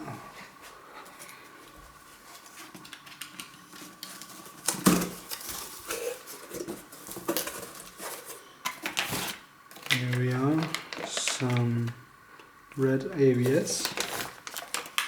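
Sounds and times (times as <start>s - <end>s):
packaging rustling: 2.0s - 15.0s.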